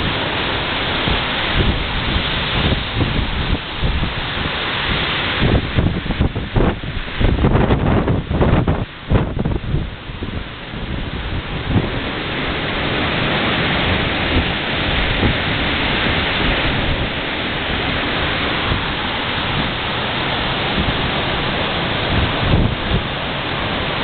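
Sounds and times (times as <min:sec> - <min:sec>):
strong wind gusts rushing: 0:00.0 - 0:24.0
wind buffeting microphone: 0:00.0 - 0:24.0.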